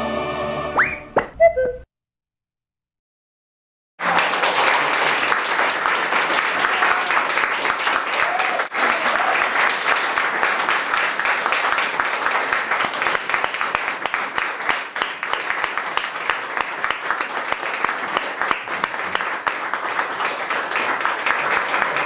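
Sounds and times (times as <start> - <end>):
audience applauding: 4.0 - 22.0.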